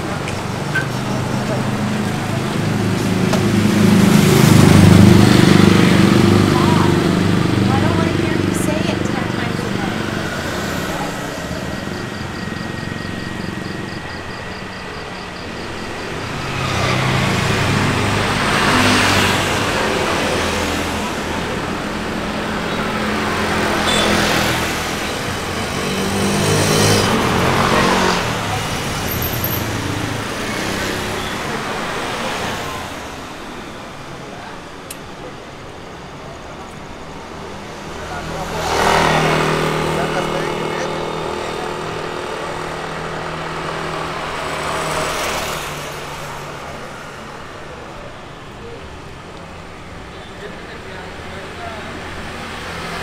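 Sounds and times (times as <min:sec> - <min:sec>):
road noise: 0:00.0 - 0:53.0
vehicles passing close by: 0:00.0 - 0:53.0.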